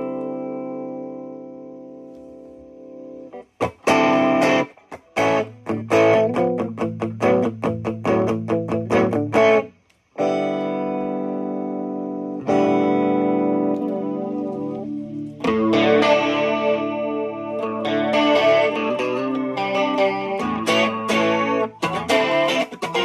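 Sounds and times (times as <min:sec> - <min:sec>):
electric guitar chords: 0:00.0 - 0:23.0.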